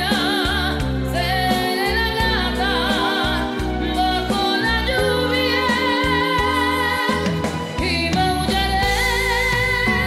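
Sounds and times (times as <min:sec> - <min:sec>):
instrumental accompaniment: 0:00.0 - 0:10.0
woman singing a slow ballad: 0:00.0 - 0:10.0.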